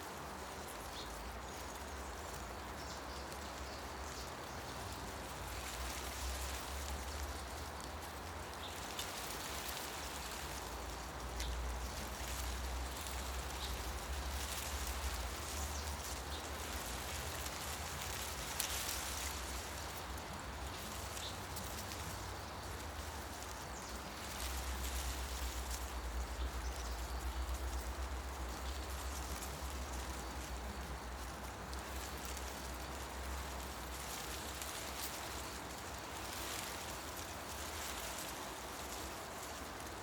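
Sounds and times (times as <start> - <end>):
leaves rustling in wind: 0.0 - 40.0.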